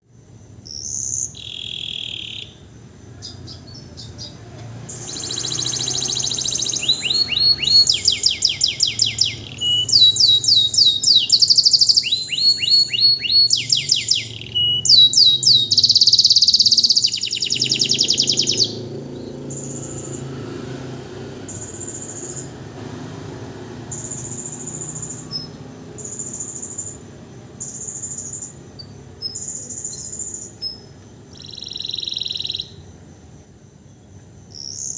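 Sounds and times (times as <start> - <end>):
canary singing trills: 0.6 - 33.2, 34.4 - 34.9.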